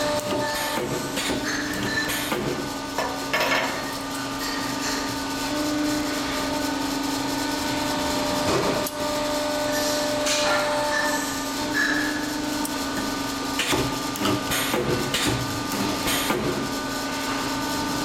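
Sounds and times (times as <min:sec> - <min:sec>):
workshop machine humming: 0:00.0 - 0:18.0.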